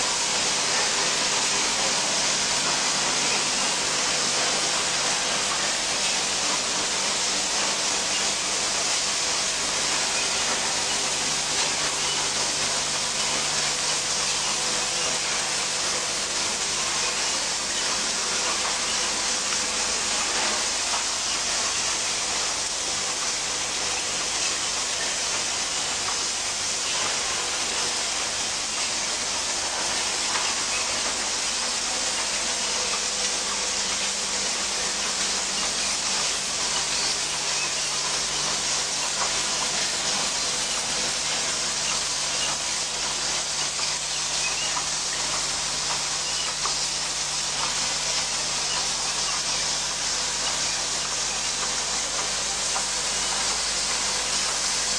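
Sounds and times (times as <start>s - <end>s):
faint machine hum: 0.0s - 54.9s.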